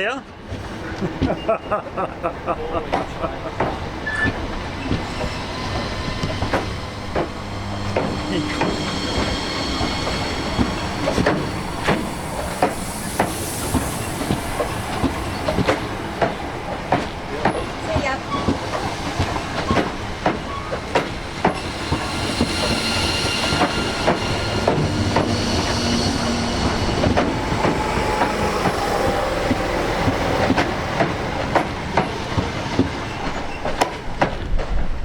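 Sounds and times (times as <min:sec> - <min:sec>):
train wheels clacking over rail joints: 0:02.8 - 0:35.0
high wheel squeal: 0:03.6 - 0:34.2.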